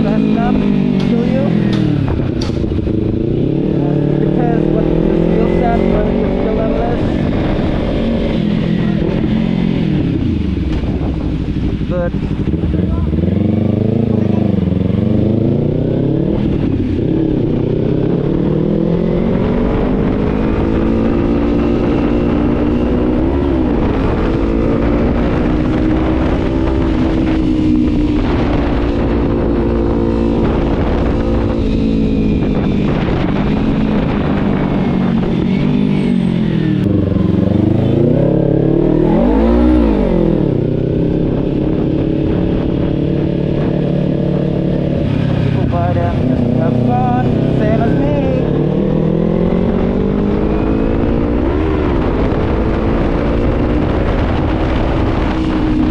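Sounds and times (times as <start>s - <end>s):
motorcycle engine revving: 0.0s - 55.9s
wind rush on microphone: 0.0s - 55.9s.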